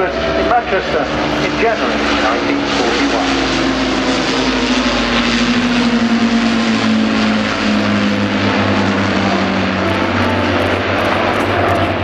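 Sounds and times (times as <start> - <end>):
aircraft piston engines droning: 0.0 - 12.0.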